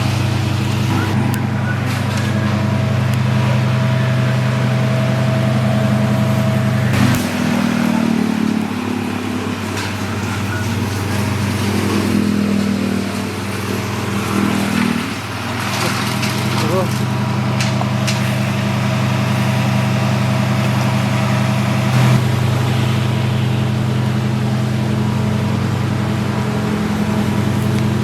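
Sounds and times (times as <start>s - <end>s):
heavy rain hiss: 0.0s - 28.0s
vehicle engine humming: 0.0s - 28.0s.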